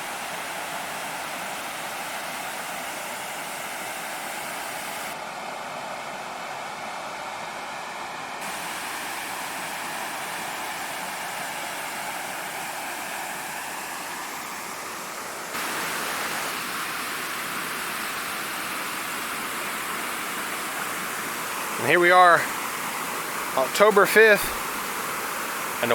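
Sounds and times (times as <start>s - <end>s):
waterfall rushing: 0.0s - 5.2s, 8.4s - 25.9s.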